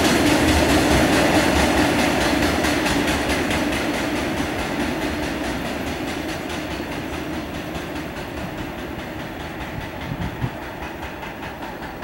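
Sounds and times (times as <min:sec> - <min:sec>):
train rumble: 0:00.0 - 0:12.0
train wheels clicking over rail joints: 0:00.0 - 0:12.0.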